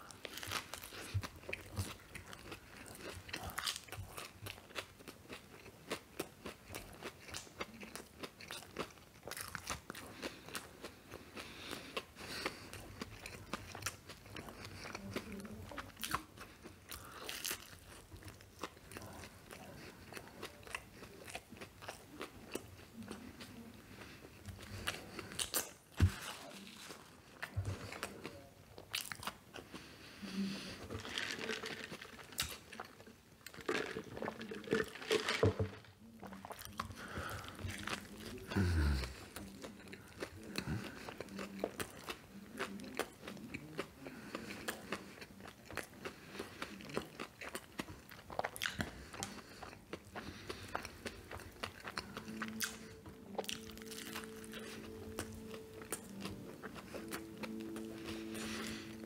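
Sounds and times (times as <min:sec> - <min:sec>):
man chewing a burger: 0:00.0 - 0:59.0.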